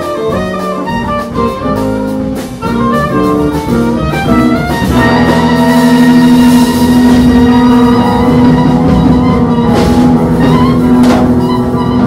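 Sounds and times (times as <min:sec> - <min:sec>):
jazz band playing: 0:00.0 - 0:12.0
soprano saxophone: 0:00.0 - 0:12.0.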